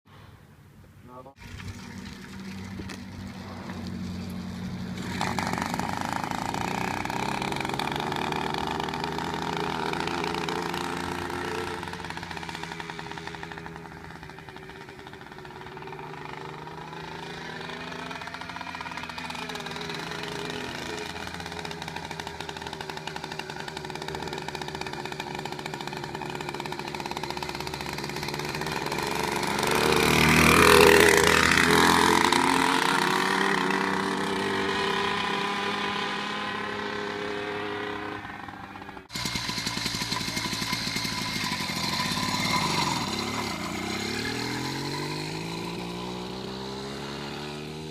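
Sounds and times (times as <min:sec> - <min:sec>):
small motorized bicycle engine: 0:01.5 - 0:34.6, 0:38.2 - 0:47.4.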